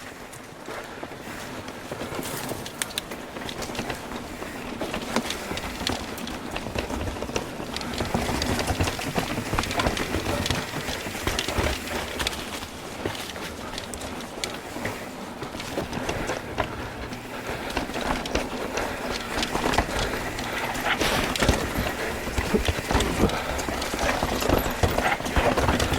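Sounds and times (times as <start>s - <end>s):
bike clattering on rock: 4.9s - 25.9s.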